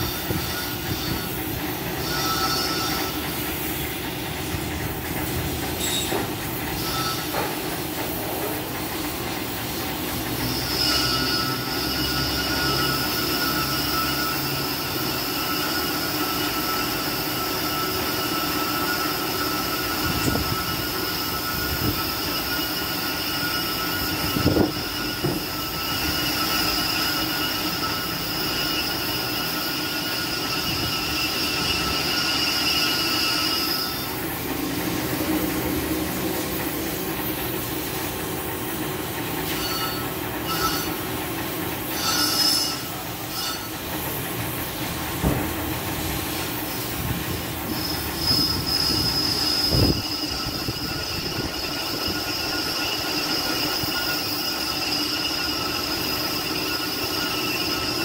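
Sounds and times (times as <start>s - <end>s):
lathe bit squealing on metal: 0.0s - 45.0s, 45.7s - 58.0s
lathe running hum: 0.0s - 58.0s.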